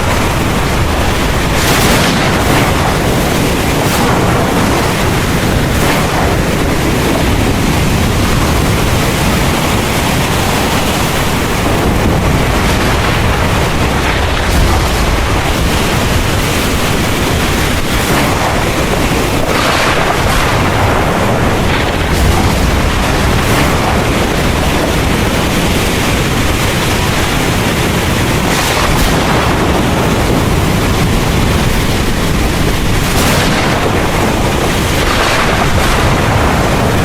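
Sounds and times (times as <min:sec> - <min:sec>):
heavy rain hissing: 0:00.0 - 0:37.0
low rumble: 0:00.0 - 0:37.0.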